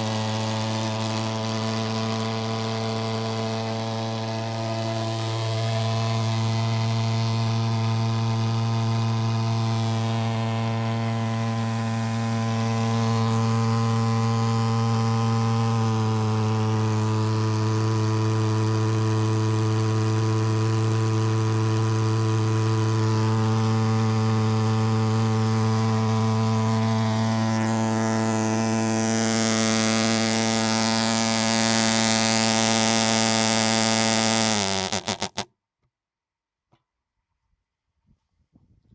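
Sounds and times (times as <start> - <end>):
pulsejet engine droning: 0.0 - 35.4.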